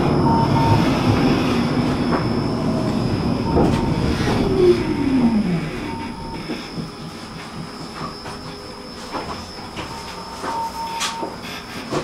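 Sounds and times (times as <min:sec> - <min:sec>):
thin high whine: 0:00.0 - 0:11.9
tram running on rails: 0:00.0 - 0:12.0
thin tone: 0:00.1 - 0:11.3.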